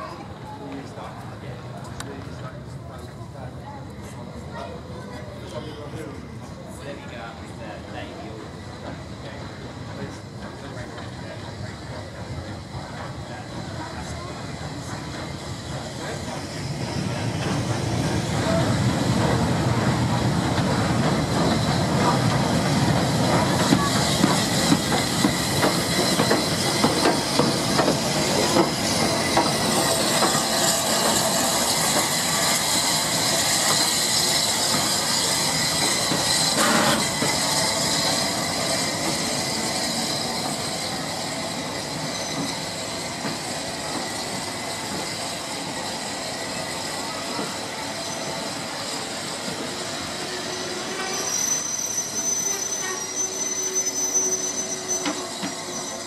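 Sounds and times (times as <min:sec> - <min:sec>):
steam locomotive rolling slowly: 0:00.0 - 0:56.0
steam hissing: 0:11.1 - 0:56.0.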